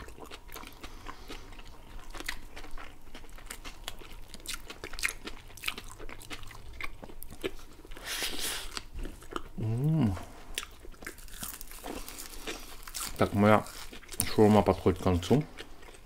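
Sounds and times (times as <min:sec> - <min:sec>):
close chewing with crunches: 0:00.0 - 0:16.0.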